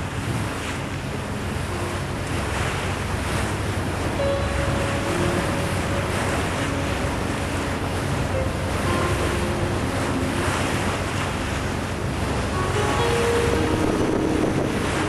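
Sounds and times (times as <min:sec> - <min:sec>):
sea water rushing past boat: 0:00.0 - 0:15.0
wind buffeting microphone: 0:00.0 - 0:15.0.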